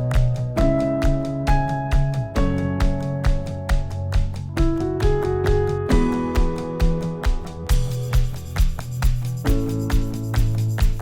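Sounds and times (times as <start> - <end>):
light instrumental music: 0.0 - 11.0
steady beat: 0.0 - 11.0.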